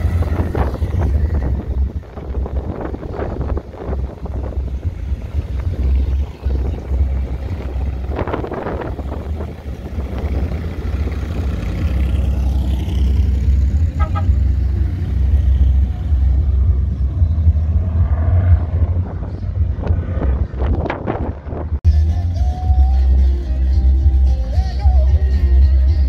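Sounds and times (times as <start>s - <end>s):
cars driving past: 0.0s - 21.8s
hot rod engine passing: 0.0s - 21.8s
low rumble: 0.0s - 26.0s.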